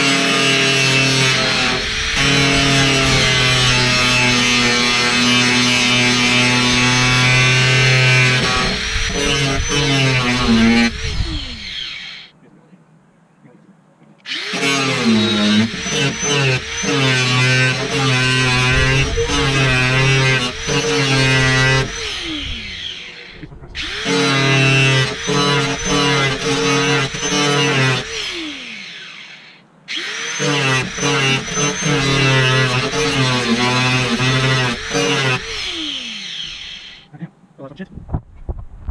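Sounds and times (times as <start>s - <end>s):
angle grinder cutting bolts: 0.0s - 12.3s, 14.3s - 37.1s.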